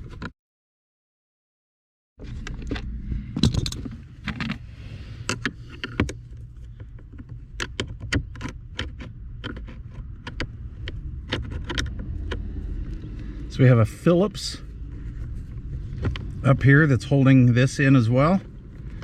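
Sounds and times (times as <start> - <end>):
steady low rumble: 2.2 - 7.6, 8.6 - 19.0.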